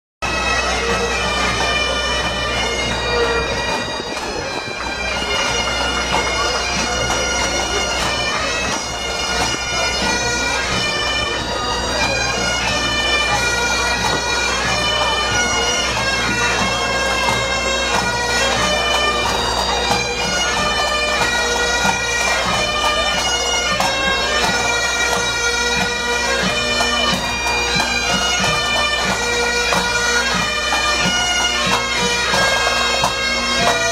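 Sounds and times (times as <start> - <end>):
bagpipes playing a march: 0.2 - 33.9.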